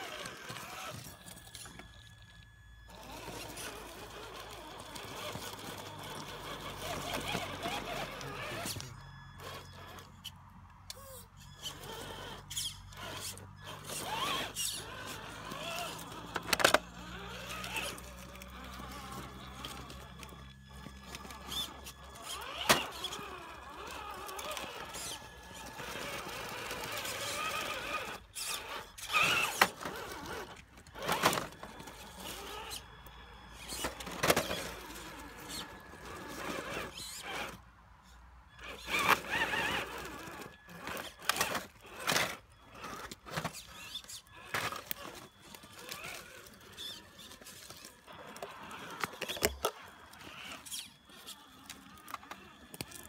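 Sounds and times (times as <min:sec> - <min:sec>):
electric motor and gears whining: 0:00.0 - 0:53.0.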